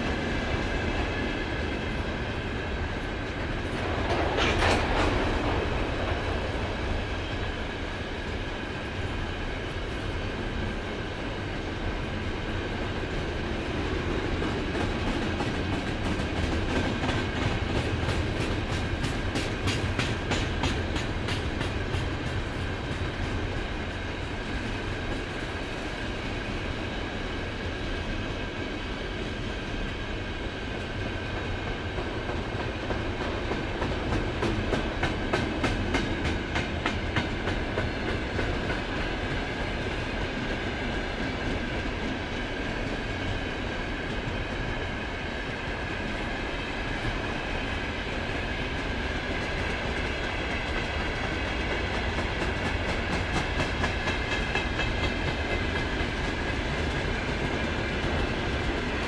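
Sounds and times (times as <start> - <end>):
freight train rumbling past: 0.0 - 59.0
wheels clickety-clack on rail joints: 0.0 - 59.0.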